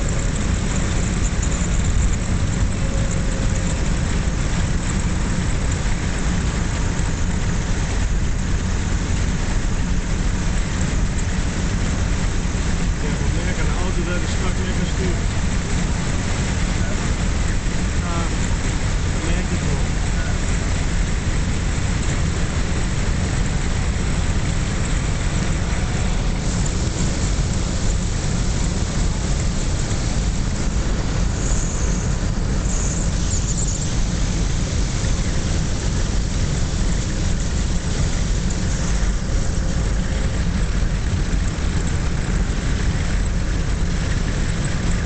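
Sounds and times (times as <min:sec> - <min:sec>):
car interior road and engine rumble: 0:00.0 - 0:45.0.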